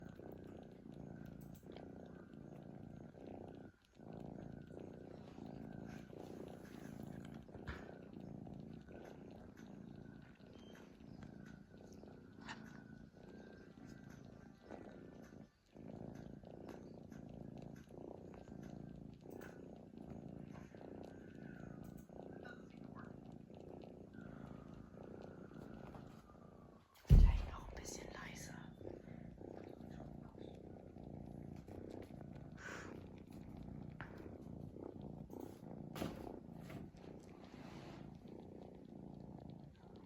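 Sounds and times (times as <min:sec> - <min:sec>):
cat snoring: 0:00.0 - 0:40.0.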